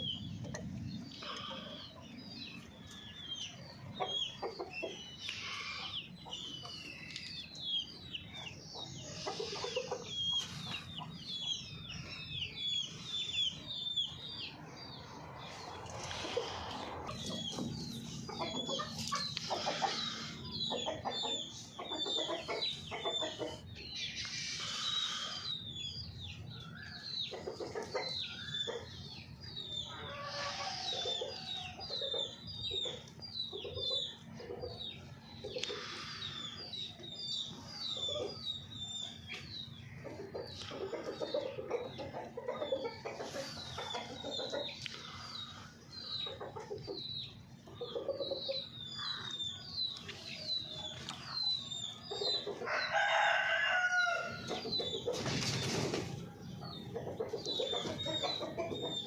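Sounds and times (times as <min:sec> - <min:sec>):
hens clucking and calling: 0:00.0 - 0:07.4, 0:08.3 - 0:26.5, 0:27.3 - 0:59.0.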